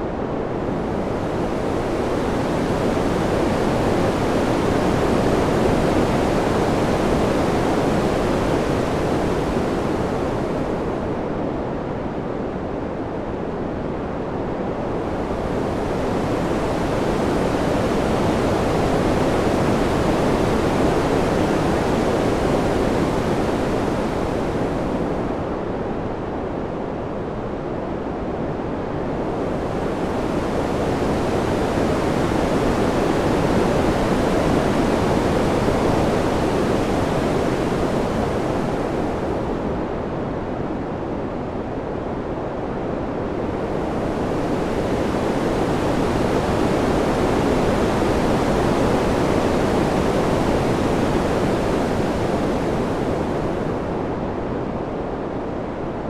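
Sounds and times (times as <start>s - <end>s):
rushing wind: 0.0s - 56.0s.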